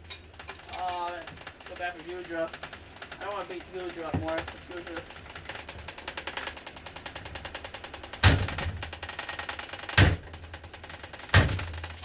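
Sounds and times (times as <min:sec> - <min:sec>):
broken box fan clattering: 0:00.0 - 0:12.0.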